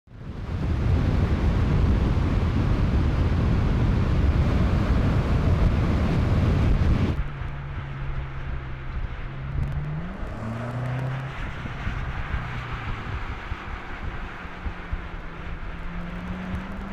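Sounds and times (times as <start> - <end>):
car engine drone: 0.1 - 16.9
road rumble: 0.1 - 16.9
wind buffeting microphone: 0.2 - 16.9.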